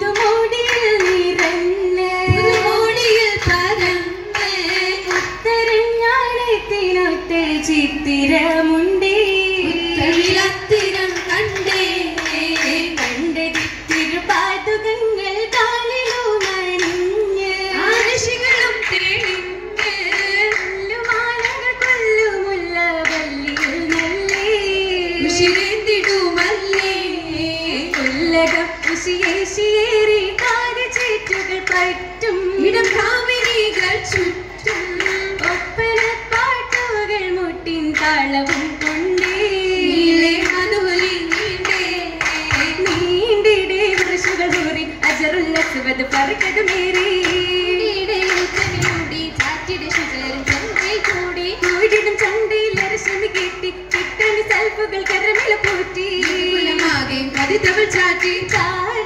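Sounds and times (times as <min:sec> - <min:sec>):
rhythmic hand clapping: 0:00.0 - 0:59.0
women singing: 0:00.0 - 0:59.0.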